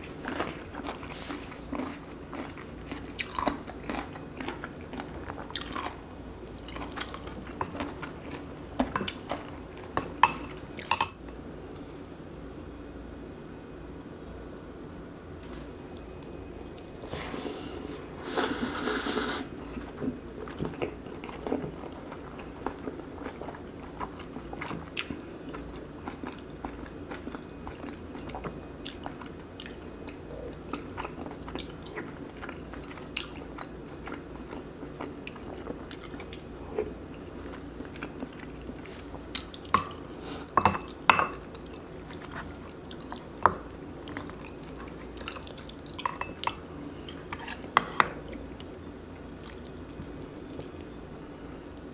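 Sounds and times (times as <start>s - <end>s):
close-miked chewing: 0.0s - 10.9s, 18.8s - 51.9s.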